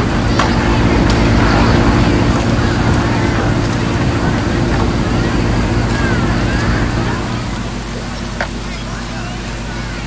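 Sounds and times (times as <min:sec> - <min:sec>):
faint voices murmuring: 0:00.0 - 0:10.0
low hum with noisy rumble: 0:00.0 - 0:10.0.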